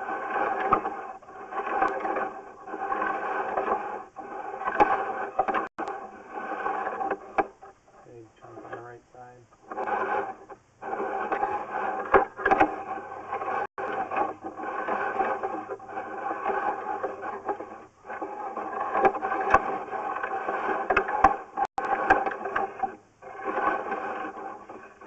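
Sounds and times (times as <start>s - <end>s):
electrical hum: 0.0s - 20.7s
camera head scraping in pipe: 0.0s - 25.0s.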